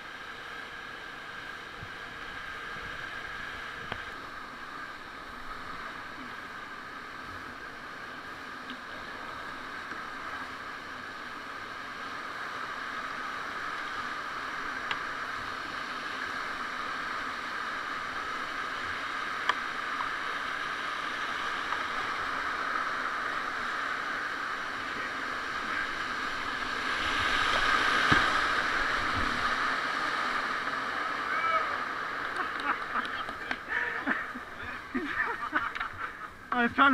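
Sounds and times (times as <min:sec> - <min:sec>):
whitewater rapids rushing: 0:00.0 - 0:36.9.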